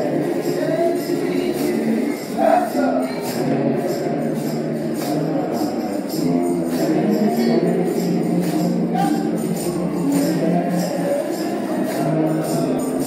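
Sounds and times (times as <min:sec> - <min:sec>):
sustained gospel chords: 0:00.0 - 0:13.0
tambourine shaken on a beat: 0:00.0 - 0:13.0.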